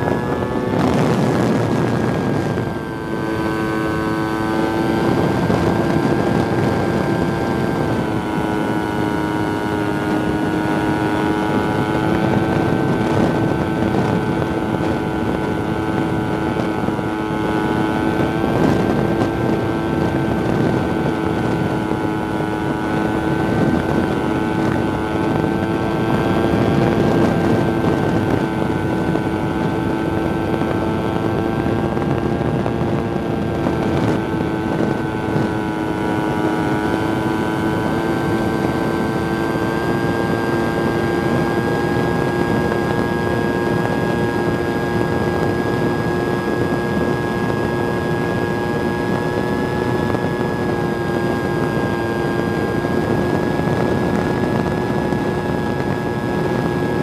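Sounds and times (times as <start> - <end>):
model airplane motor whine: 0.0 - 57.0
wind rushing over microphone: 0.0 - 57.0.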